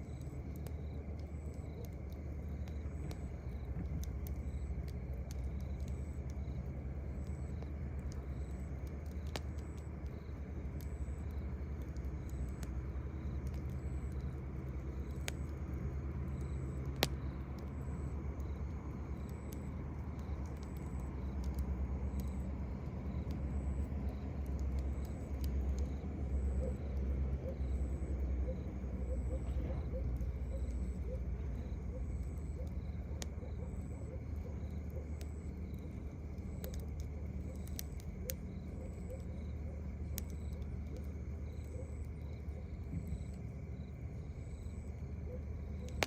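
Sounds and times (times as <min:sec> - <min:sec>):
campfire crackling and popping: 0:00.0 - 0:46.0
crickets chirping: 0:00.0 - 0:46.0
steady low rumble: 0:00.0 - 0:46.0.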